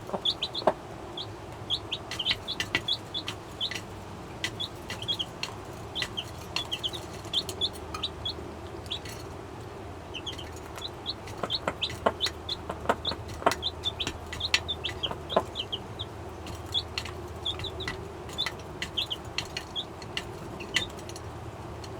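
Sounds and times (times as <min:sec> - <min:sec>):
baby chicks peeping: 0:00.0 - 0:21.9
hen clucking: 0:00.0 - 0:21.9
sharp ticks and taps: 0:00.0 - 0:21.9.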